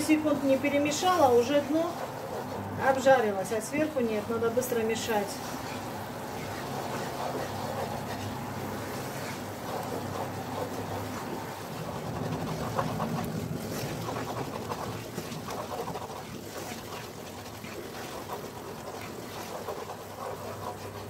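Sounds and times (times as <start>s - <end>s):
wooden spatula scraping a pan: 0.0s - 21.0s.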